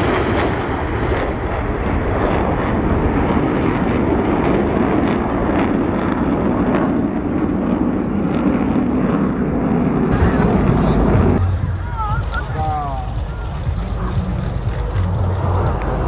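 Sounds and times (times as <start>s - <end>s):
fighter jets roaring past: 0.0s - 16.0s.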